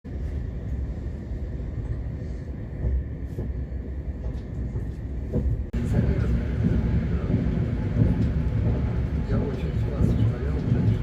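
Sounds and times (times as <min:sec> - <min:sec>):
train rumble inside carriage: 0:00.1 - 0:11.0.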